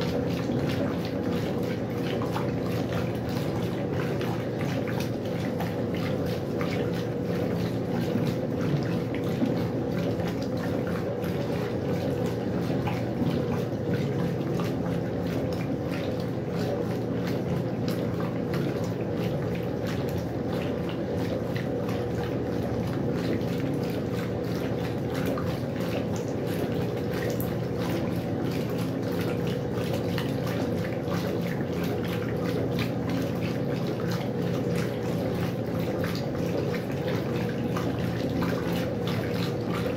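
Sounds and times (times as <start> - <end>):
washing machine hum: 0.0 - 39.9
water splashing in washing machine: 0.0 - 39.9.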